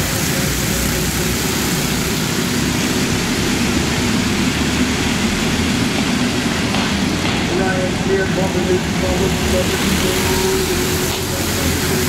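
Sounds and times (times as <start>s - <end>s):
racing kart engines: 0.0s - 12.0s.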